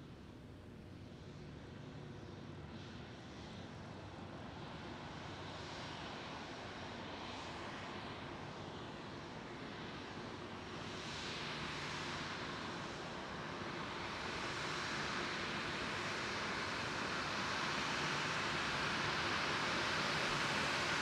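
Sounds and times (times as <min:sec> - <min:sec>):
airliner engines rushing: 0:00.0 - 0:21.0.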